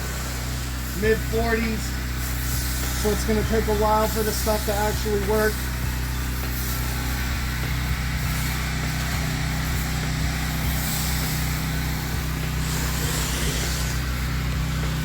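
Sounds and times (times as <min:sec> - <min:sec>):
hiss of spray wand: 0:00.0 - 0:15.0
pressure washer engine running: 0:00.0 - 0:15.0.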